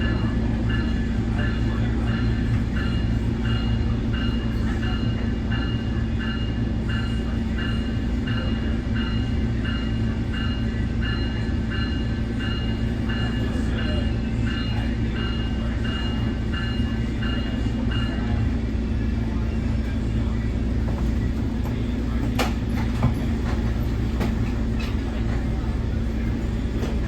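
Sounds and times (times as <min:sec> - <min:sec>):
train warning bell ringing: 0:00.0 - 0:27.0.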